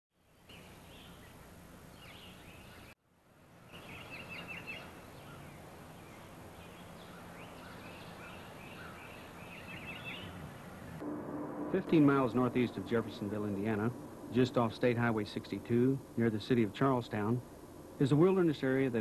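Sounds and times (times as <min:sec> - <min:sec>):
birds chirping: 0:00.2 - 0:03.0, 0:03.6 - 0:11.0, 0:11.8 - 0:19.0
steady low hum: 0:00.6 - 0:19.0.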